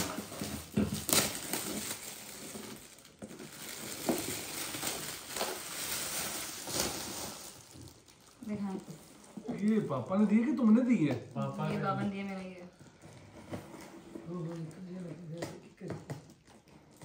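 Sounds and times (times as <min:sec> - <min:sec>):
wrapping paper tearing and crinkling: 0:00.0 - 0:15.0.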